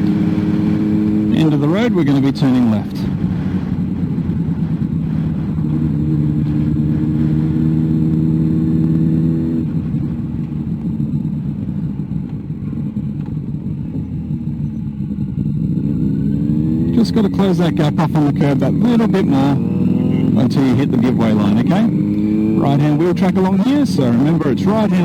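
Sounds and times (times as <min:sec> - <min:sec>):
car engine from inside: 0:00.0 - 0:25.0.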